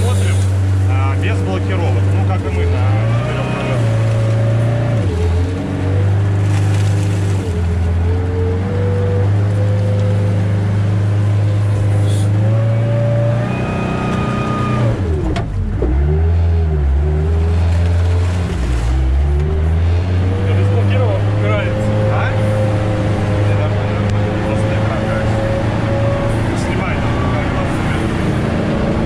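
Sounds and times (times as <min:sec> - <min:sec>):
vehicle engine under load: 0:00.0 - 0:29.0.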